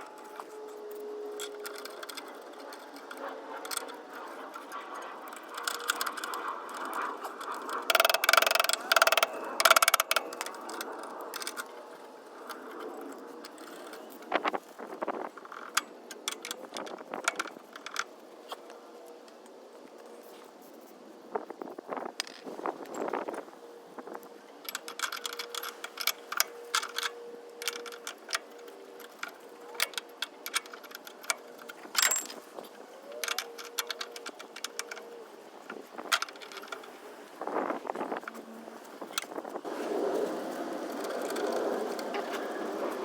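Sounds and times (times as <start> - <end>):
hand tools and metal parts clinking: 0.0 - 19.5, 22.0 - 39.7.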